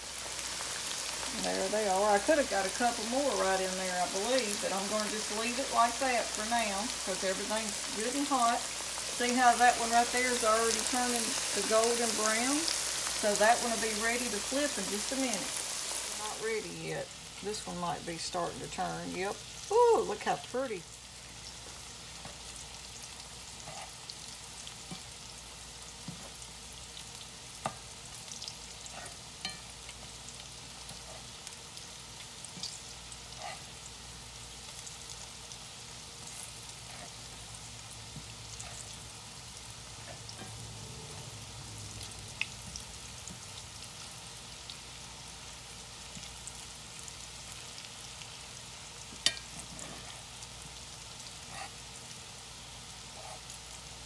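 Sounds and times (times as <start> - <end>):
squash frying in oil: 0.0 - 54.0.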